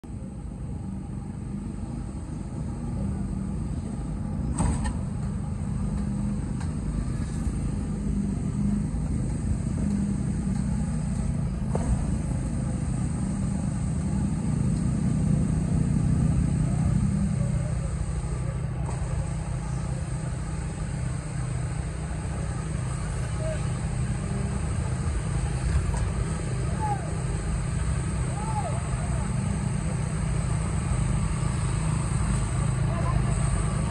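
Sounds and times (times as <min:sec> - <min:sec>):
diesel engine drone: 0:00.0 - 0:33.9.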